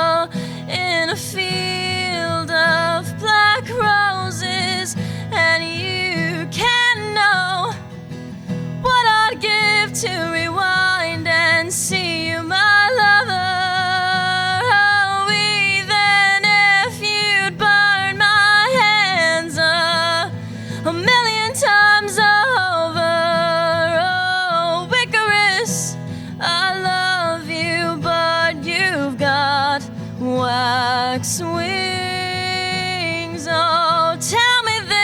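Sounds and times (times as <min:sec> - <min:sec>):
woman singing: 0:00.0 - 0:07.9, 0:08.8 - 0:35.0
acoustic guitar: 0:00.0 - 0:35.0.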